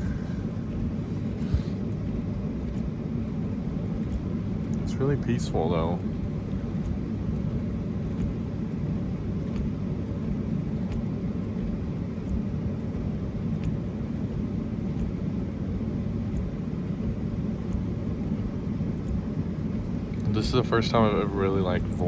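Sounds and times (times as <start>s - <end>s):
faint ticking: 4.0s - 22.0s.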